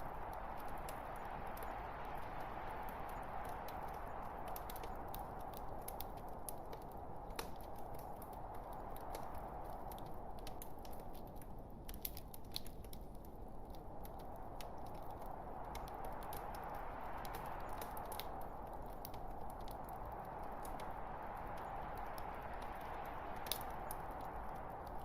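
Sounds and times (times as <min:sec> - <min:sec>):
fire crackles and pops: 0:00.0 - 0:25.0
log fire burning: 0:00.0 - 0:25.0.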